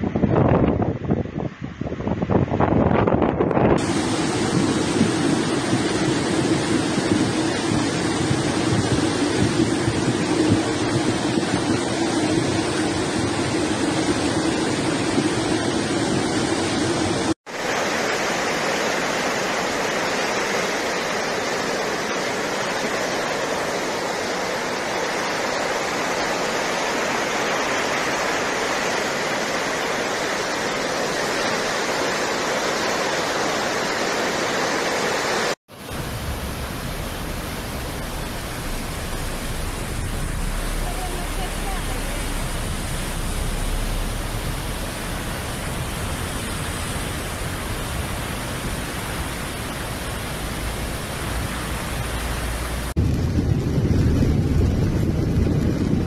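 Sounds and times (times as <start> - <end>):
floodwater rushing: 3.8 - 56.0.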